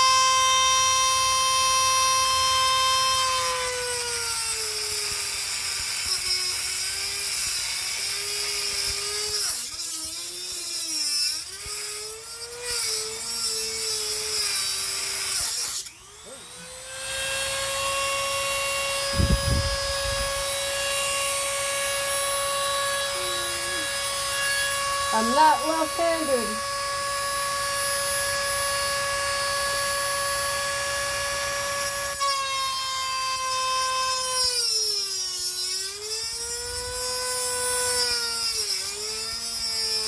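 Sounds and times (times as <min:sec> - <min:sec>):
power tool whining cutting metal: 0:00.0 - 0:40.0.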